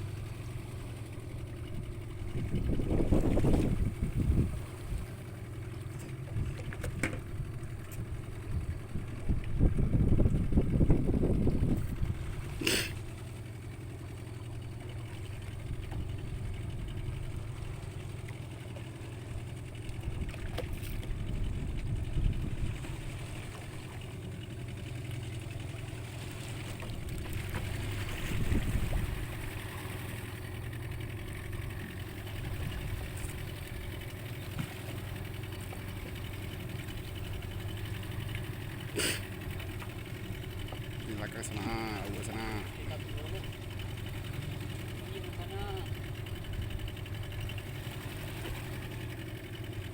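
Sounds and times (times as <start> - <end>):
boat engine humming: 0.0 - 49.9.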